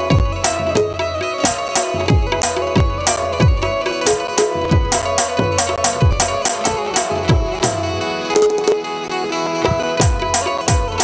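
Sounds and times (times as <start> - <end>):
held harmonium notes: 0.0 - 11.0
tabla playing a rhythm: 0.0 - 11.0.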